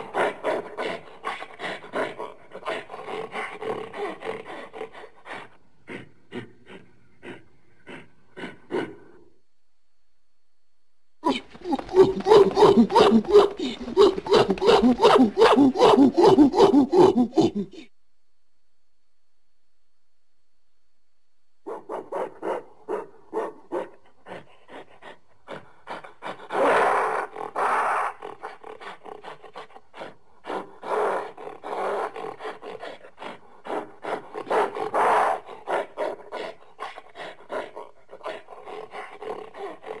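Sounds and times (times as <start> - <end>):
gorilla grunting and howling: 0.0 - 9.3, 11.2 - 17.9, 23.8 - 40.0.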